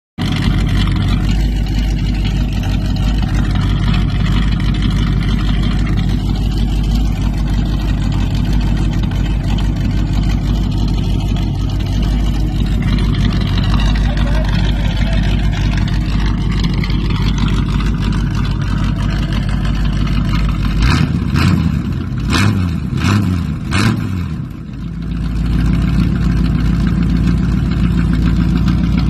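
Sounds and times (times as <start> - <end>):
truck engine idling: 0.2 - 29.0.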